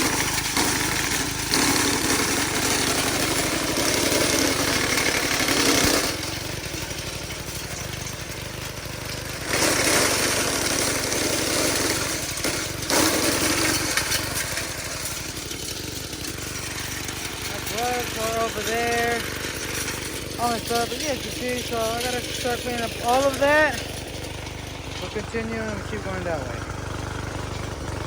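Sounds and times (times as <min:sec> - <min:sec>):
branches grinding in chipper: 0:00.0 - 0:28.0
wood chipper engine running: 0:00.0 - 0:28.0.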